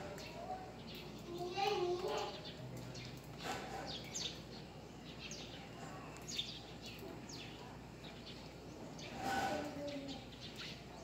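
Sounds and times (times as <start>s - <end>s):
faint steady background noise: 0.0s - 11.0s
small birds chirping: 0.0s - 11.0s.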